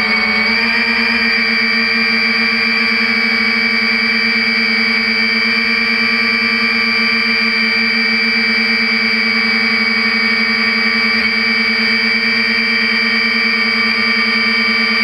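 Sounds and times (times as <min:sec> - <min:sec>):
drone propellers buzzing: 0:00.0 - 0:05.6, 0:08.3 - 0:15.0
high motor whine: 0:00.0 - 0:15.0.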